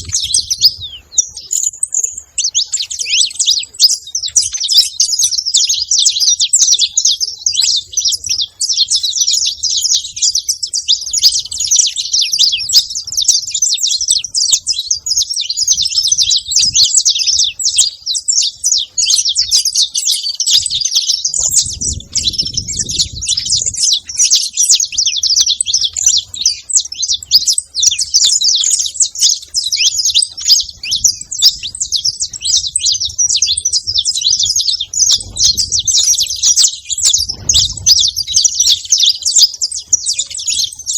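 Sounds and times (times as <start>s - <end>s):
finch singing high chirps: 0.0s - 40.9s.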